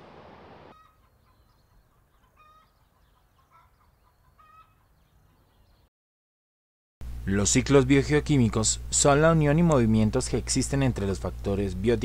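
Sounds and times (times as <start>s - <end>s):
faint outdoor ambience: 0.0s - 5.9s, 7.0s - 12.0s.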